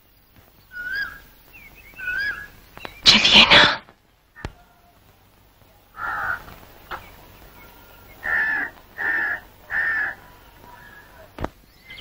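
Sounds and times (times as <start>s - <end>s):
bird calling: 0.7s - 5.0s, 5.9s - 12.0s.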